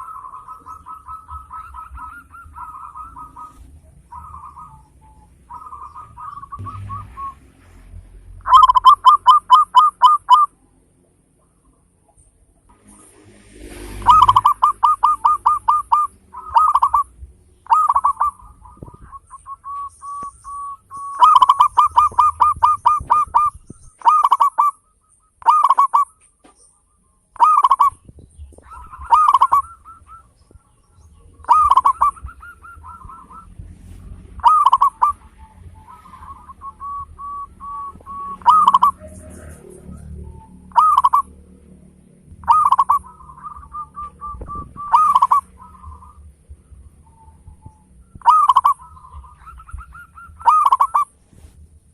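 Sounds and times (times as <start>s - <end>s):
dove cooing: 0.0s - 7.4s, 8.4s - 10.6s, 14.0s - 41.4s, 42.3s - 51.2s.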